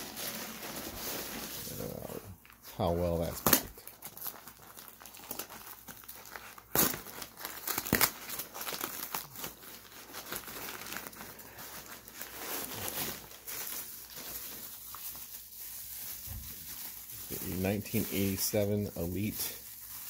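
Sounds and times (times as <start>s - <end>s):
newspaper crinkling: 0.0s - 20.0s
sharp ripping: 3.0s - 20.0s.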